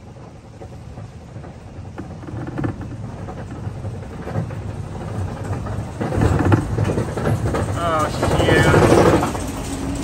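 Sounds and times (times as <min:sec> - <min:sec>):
coaster cars rumbling: 0:00.0 - 0:10.0.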